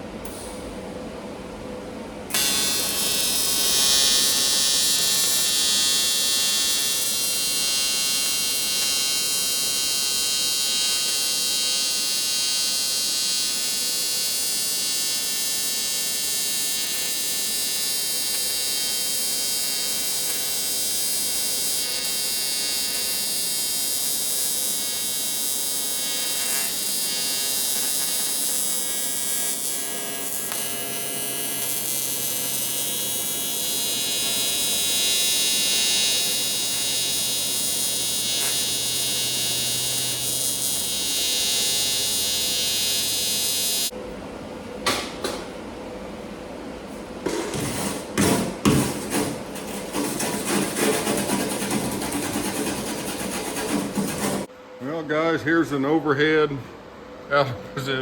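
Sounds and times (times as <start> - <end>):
welding arc buzzing: 2.3 - 44.0, 47.5 - 54.5.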